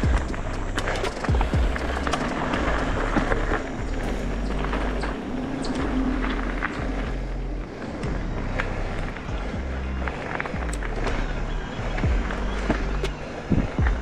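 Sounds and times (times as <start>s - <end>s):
bike rattling clicks and knocks: 0.0s - 14.0s
bike tyre and wind rumble: 0.0s - 14.0s.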